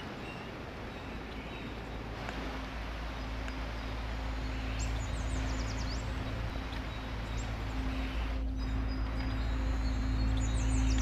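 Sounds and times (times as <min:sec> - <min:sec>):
faint low hum: 0:00.0 - 0:11.0
outdoor background hiss: 0:00.0 - 0:11.0
small bird singing: 0:00.0 - 0:11.0.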